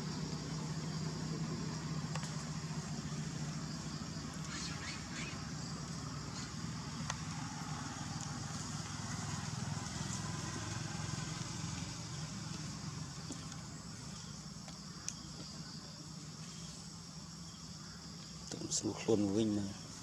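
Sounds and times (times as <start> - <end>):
vehicle engine humming: 0.0 - 18.4.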